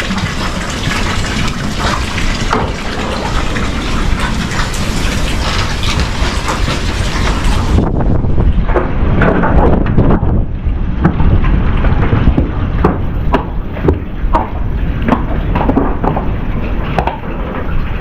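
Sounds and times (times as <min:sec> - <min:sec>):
knocks and rattles: 0:00.0 - 0:18.0
wind buffeting microphone: 0:00.0 - 0:18.0.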